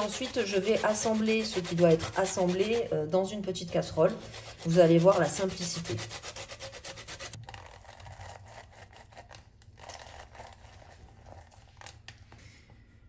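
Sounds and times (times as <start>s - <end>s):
citrus juicer scraping: 0.0s - 11.6s.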